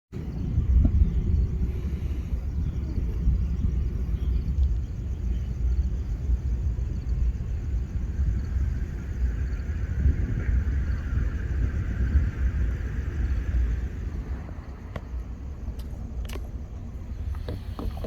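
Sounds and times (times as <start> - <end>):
low vehicle rumble: 0.1 - 18.0.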